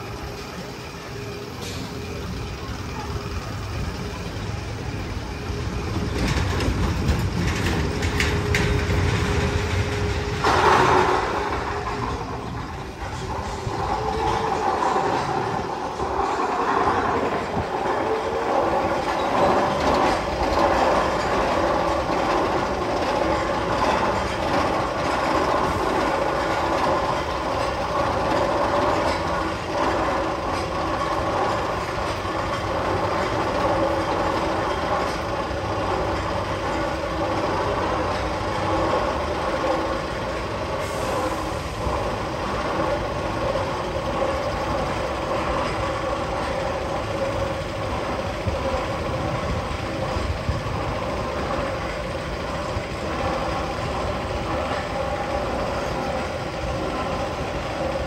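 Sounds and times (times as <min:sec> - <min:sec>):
train-like rumbling and clattering: 0:00.0 - 0:58.0.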